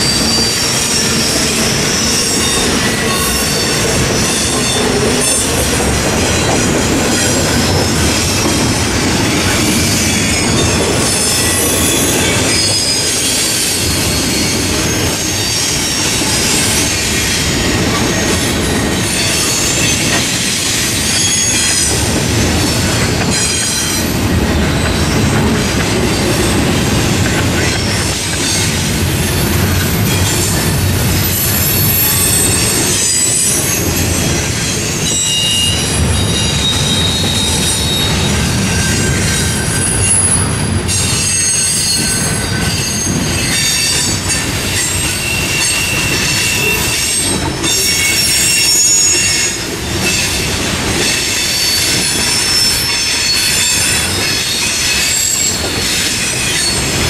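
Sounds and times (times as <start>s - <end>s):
high-pitched wheel squeal: 0.0s - 8.5s, 9.3s - 22.0s, 31.2s - 57.0s
freight train rumble and clatter: 0.0s - 57.0s.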